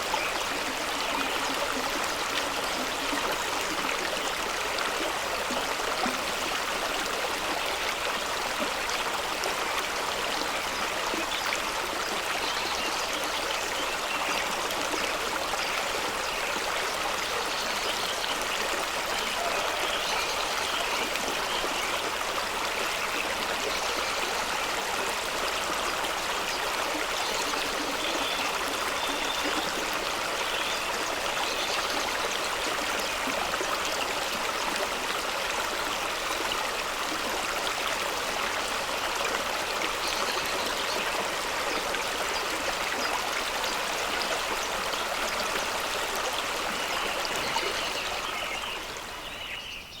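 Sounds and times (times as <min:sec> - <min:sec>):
stream rushing over rocks: 0:00.0 - 0:49.3.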